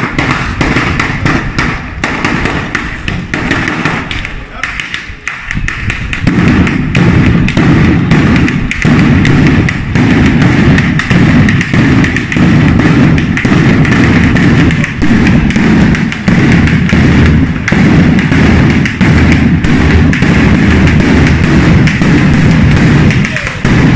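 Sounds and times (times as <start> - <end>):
firecrackers banging: 0.0 - 23.9.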